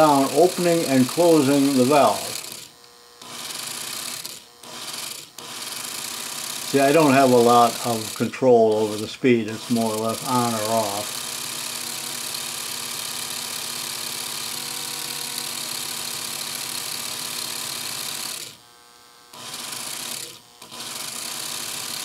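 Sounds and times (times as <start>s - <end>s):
buffing wheel rubbing pulley: 0.0s - 18.6s
rotary tool running: 0.0s - 22.0s.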